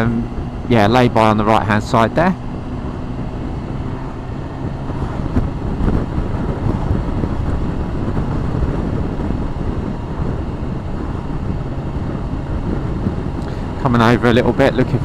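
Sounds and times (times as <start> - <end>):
motorcycle engine drone: 0.0 - 15.0
wind buffeting microphone: 0.0 - 15.0.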